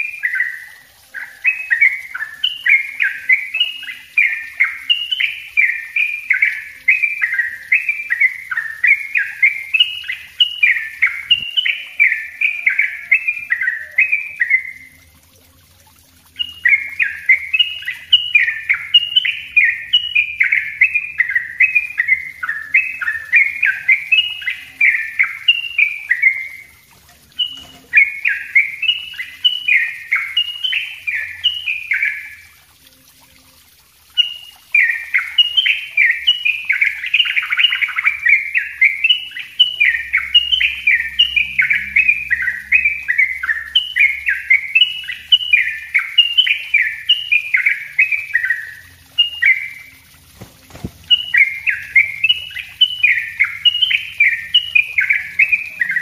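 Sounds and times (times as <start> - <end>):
bulbul singing fast whistled phrases: 0.0 - 33.0, 34.1 - 56.0.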